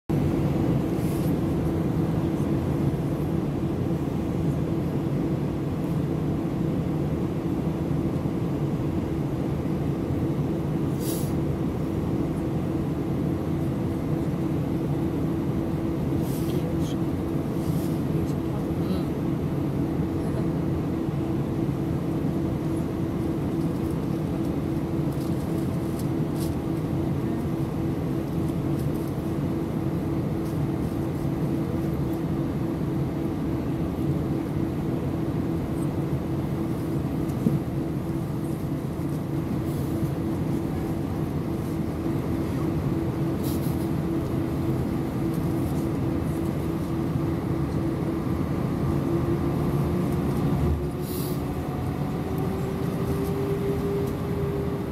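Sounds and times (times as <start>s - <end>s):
airplane cabin engine rush: 0.1s - 54.9s
constant low hum: 0.1s - 54.9s.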